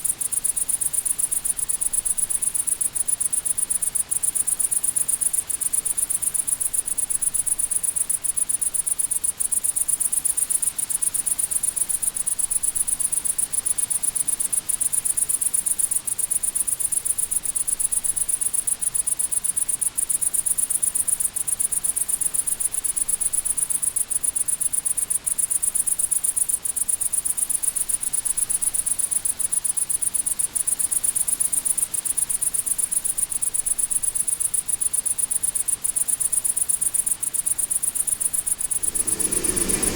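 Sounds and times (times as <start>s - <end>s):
crickets chirping: 0.1s - 39.9s.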